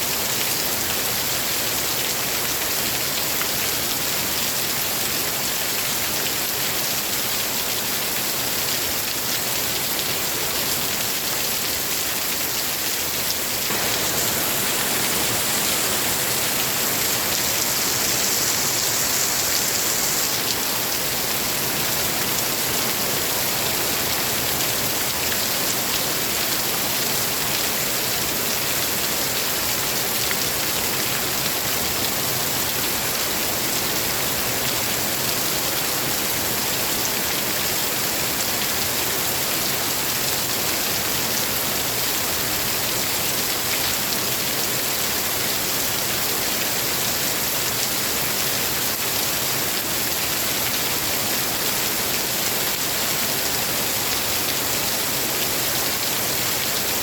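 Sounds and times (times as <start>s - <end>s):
rain falling steadily: 0.0s - 57.0s.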